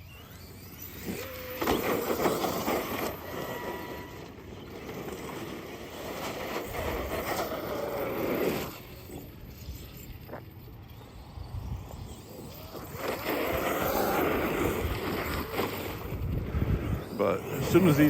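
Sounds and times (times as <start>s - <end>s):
electric motor whining: 0.0s - 18.0s
tyre and drivetrain noise: 0.0s - 18.0s.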